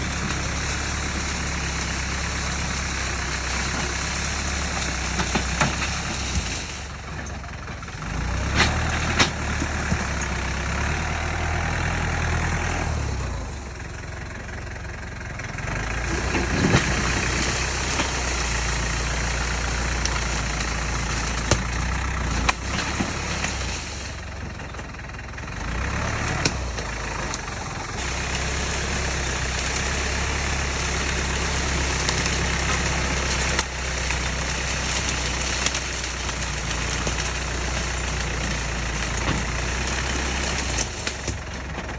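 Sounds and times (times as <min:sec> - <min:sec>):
tractor engine humming: 0:00.0 - 0:41.9.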